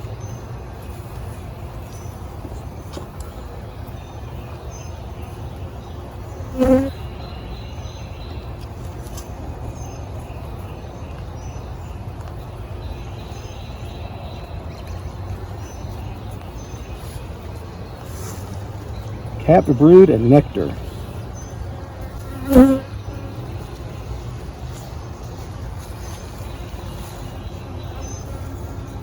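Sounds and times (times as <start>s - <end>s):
honeybees humming: 0.8s - 8.5s, 12.5s - 29.0s.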